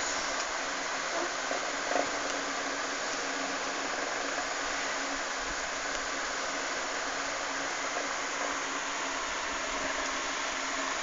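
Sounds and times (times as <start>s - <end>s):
faint even hum: 0.0s - 11.0s.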